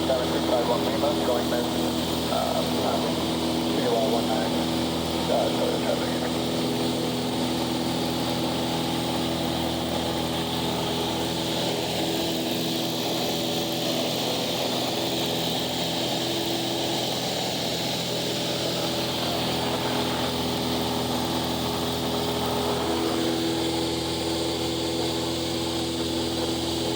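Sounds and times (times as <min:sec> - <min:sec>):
propeller plane engine droning: 0:00.0 - 0:26.9.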